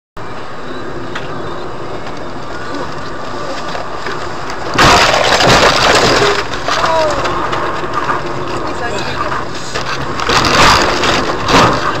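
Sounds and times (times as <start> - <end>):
car road and engine noise: 0.2 - 12.0.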